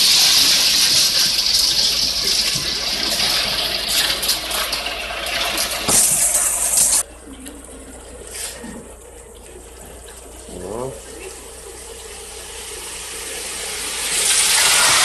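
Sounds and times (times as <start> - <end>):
wet concrete gushing: 0.0 - 15.0.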